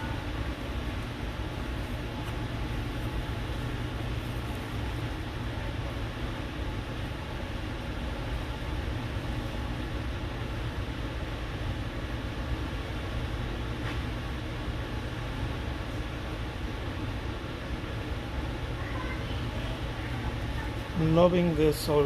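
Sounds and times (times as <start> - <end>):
low rumble with hiss: 0.0 - 22.0.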